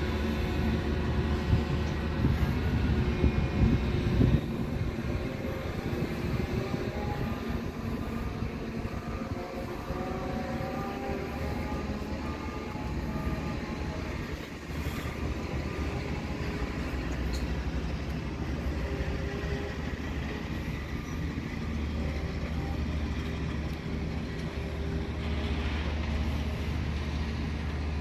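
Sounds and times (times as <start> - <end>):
electric train humming: 0.0 - 28.0.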